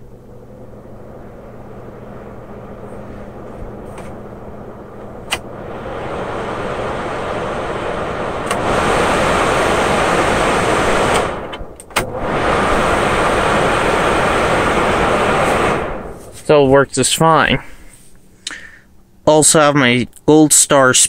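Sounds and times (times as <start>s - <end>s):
fan speed control clicks: 0.0s - 17.4s
window fan running: 0.0s - 21.0s.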